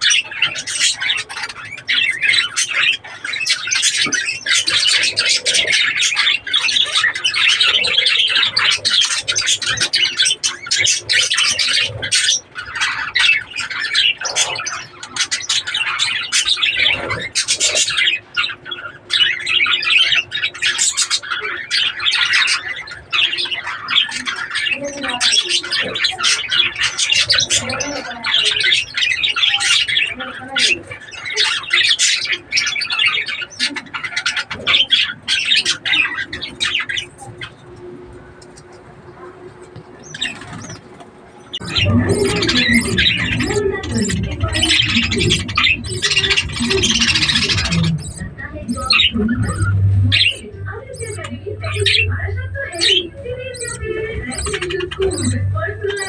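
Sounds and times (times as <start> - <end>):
budgerigars chirping and squawking: 0.0 - 56.0.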